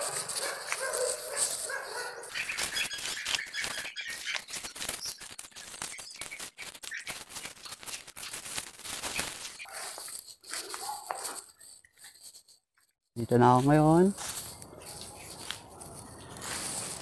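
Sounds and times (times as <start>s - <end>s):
birds chirping: 0.0s - 8.3s, 9.0s - 12.2s, 13.2s - 17.0s
footsteps crunching dry leaves: 0.0s - 12.5s, 13.2s - 17.0s.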